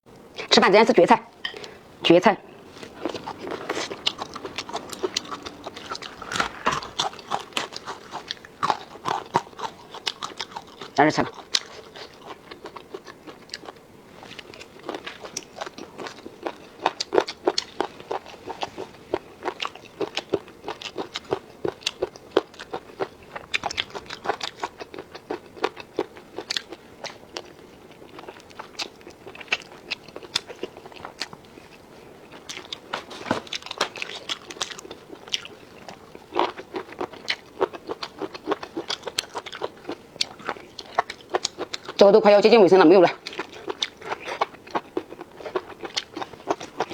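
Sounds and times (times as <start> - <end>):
person crunching and chewing: 2.5 - 42.1, 43.1 - 46.9.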